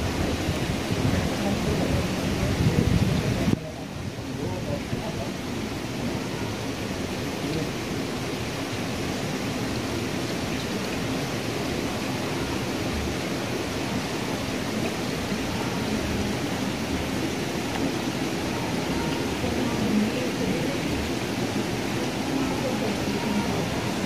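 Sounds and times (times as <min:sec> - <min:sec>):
water pouring into pond: 0:00.0 - 0:24.0.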